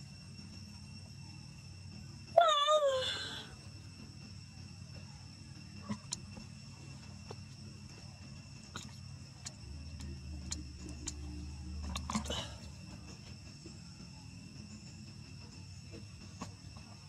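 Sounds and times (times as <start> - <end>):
high insect drone: 0.0 - 17.0
low hum: 3.3 - 17.0.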